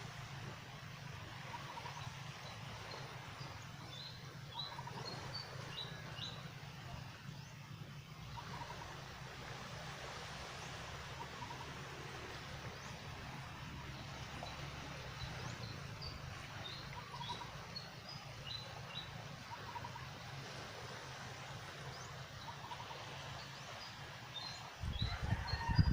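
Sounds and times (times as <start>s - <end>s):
low hum and hiss: 0.0s - 24.9s.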